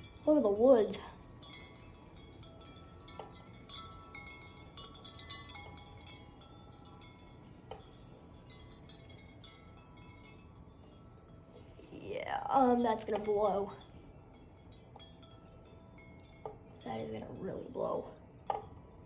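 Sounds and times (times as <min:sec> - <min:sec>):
low rumble of wind: 0:00.0 - 0:19.0
wind chimes ringing: 0:00.0 - 0:19.0.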